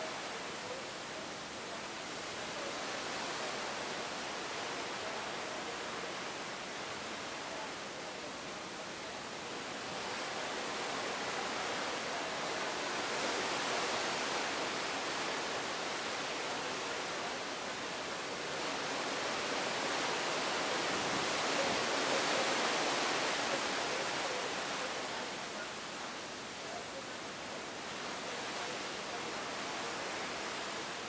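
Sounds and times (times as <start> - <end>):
sea water rushing along ship hull: 0.0 - 31.0
wind: 0.0 - 31.0.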